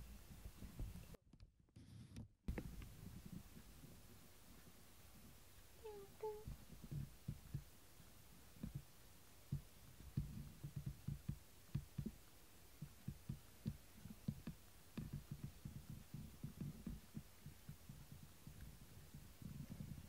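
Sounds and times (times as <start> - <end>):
soft low thumps: 2.5 - 20.0.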